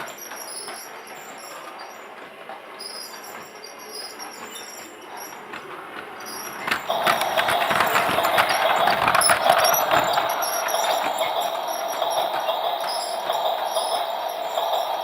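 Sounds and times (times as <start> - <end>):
clicking and rattling: 0.1 - 15.0
toy train motor hum: 2.8 - 15.0.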